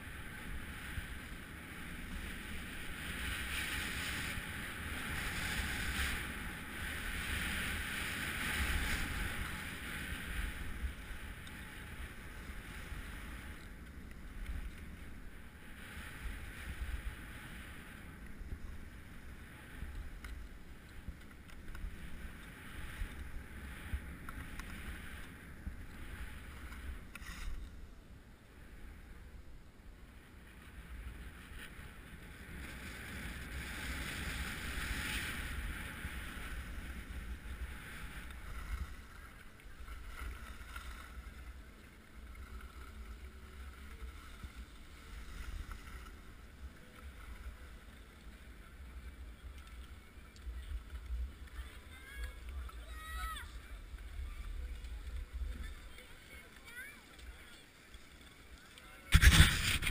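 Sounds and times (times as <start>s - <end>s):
skis scraping over snow: 0.0s - 27.8s, 30.2s - 59.9s.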